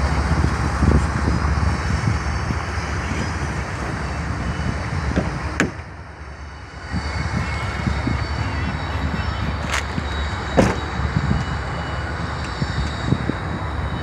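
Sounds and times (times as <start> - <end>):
freight train rumble: 0.0 - 14.0
road traffic: 0.0 - 14.0
wind gusting on microphone: 0.0 - 14.0.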